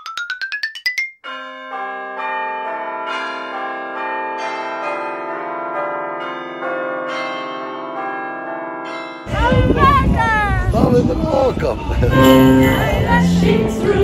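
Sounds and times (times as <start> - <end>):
peal of bells: 0.8 - 10.6, 12.2 - 13.8.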